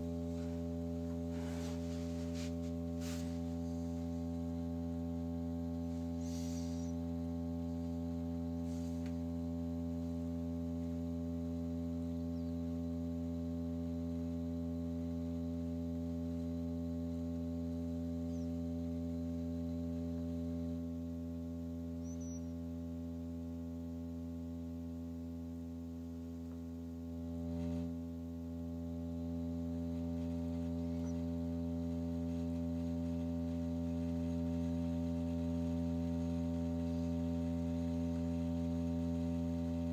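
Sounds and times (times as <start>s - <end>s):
low electronic drone: 0.0s - 39.9s.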